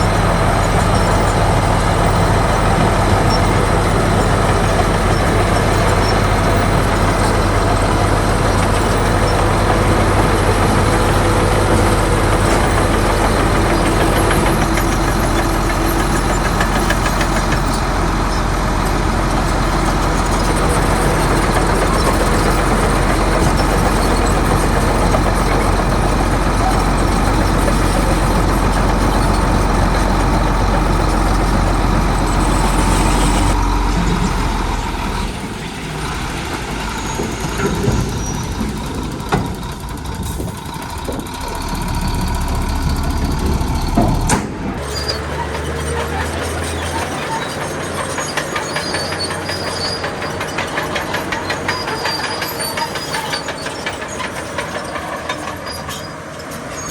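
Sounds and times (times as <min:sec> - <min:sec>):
heavy diesel engines rumbling: 0:00.0 - 0:56.9.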